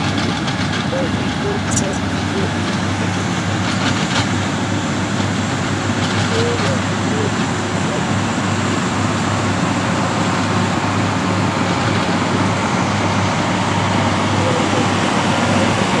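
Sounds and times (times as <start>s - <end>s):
bulldozer diesel engine drone: 0.0s - 16.0s.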